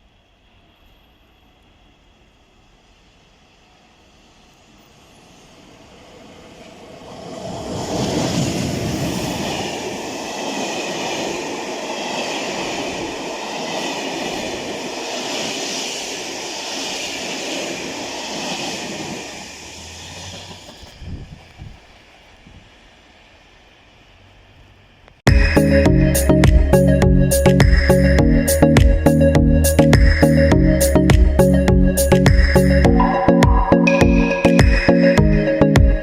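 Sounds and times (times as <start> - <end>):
train passing: 0.0 - 36.0.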